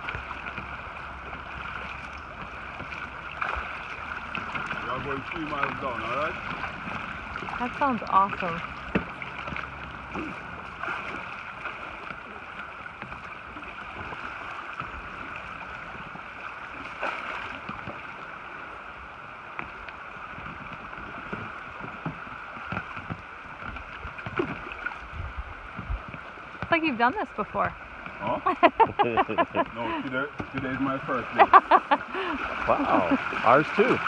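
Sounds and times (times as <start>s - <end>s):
river water rushing and lapping: 0.0s - 34.0s.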